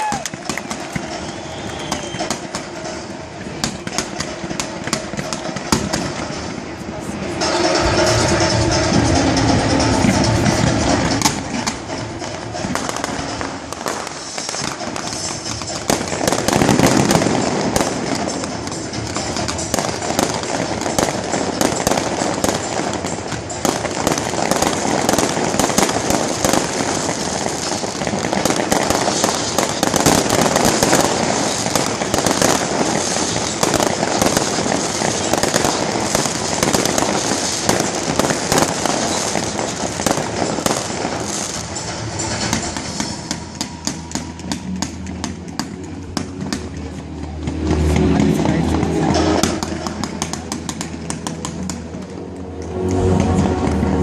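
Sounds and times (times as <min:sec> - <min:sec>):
fireworks crackling and banging: 0:00.0 - 0:54.0
music playing: 0:00.0 - 0:54.0.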